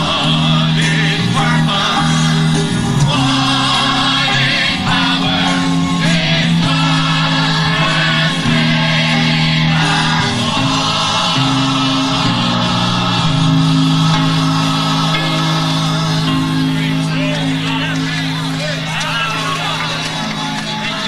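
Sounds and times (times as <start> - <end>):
group singing gospel song: 0.0 - 21.0
instrumental accompaniment: 0.0 - 21.0.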